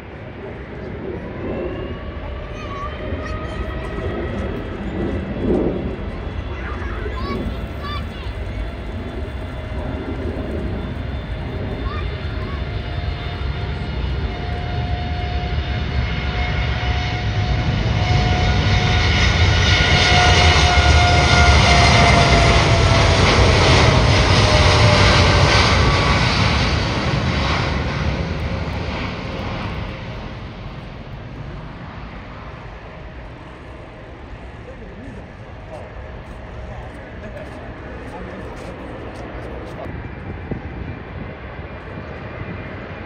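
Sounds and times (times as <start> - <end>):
jet airliner taking off: 0.0 - 43.0.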